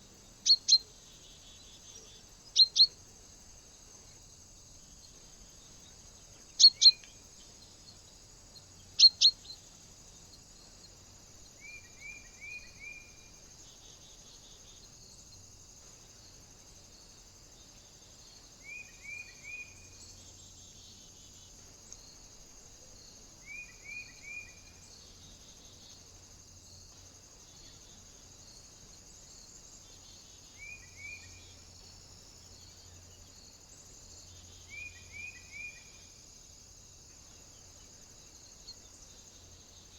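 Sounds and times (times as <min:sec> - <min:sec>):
steady high hiss: 0:00.0 - 0:39.9.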